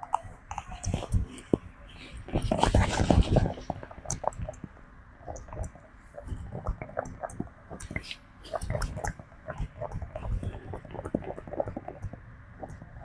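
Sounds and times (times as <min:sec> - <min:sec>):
small wet clicks and rustles: 0:00.0 - 0:13.0.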